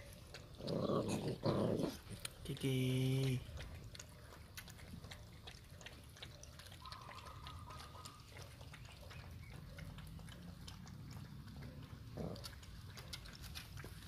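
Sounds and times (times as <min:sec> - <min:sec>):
puppies lapping: 0:00.0 - 0:14.0.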